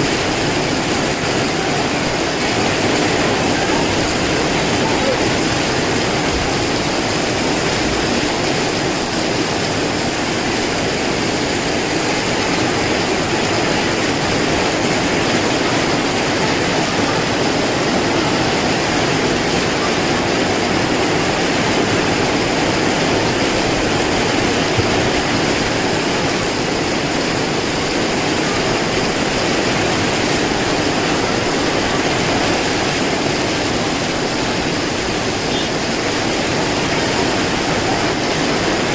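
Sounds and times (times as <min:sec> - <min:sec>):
heavy rain in strong wind: 0:00.0 - 0:38.9.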